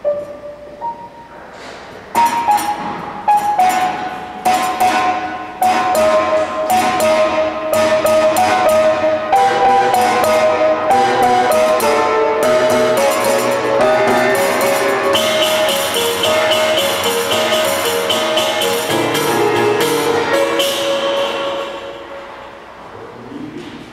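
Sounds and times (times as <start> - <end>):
grand piano playing: 0.0 - 23.0.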